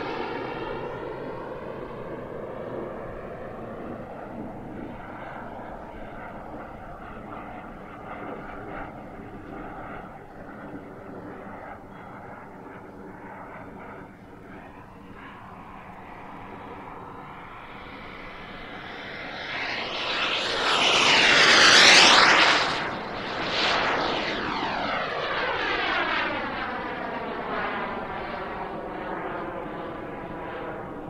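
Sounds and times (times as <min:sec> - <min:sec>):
jet turbine roar and whine: 0:00.0 - 0:31.0.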